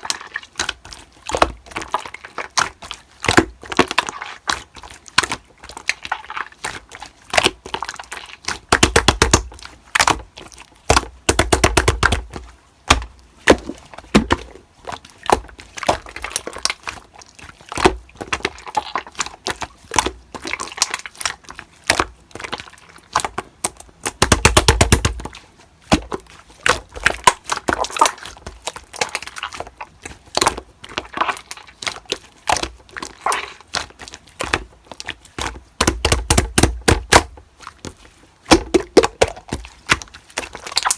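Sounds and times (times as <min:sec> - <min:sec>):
slime crackling and popping: 0:00.0 - 0:40.9.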